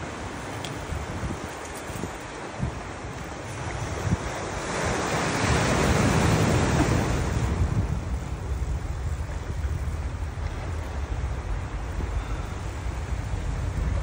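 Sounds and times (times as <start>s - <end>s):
wave breaking and washing in: 0.0s - 14.0s
wind rumbling on microphone: 0.0s - 14.0s.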